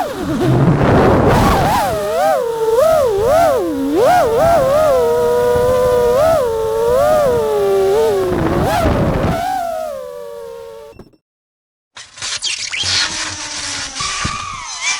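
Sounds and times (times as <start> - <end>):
quadcopter motors whining: 0.0 - 11.0, 12.2 - 14.9.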